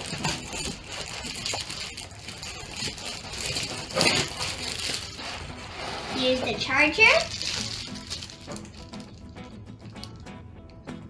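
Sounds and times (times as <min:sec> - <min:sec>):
wrapping crinkling: 0:00.0 - 0:10.3
light knocks and rattles: 0:00.0 - 0:11.0.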